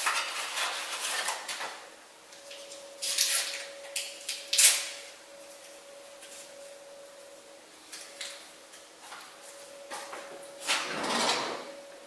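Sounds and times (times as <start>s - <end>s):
faint steady hum: 1.6s - 12.0s.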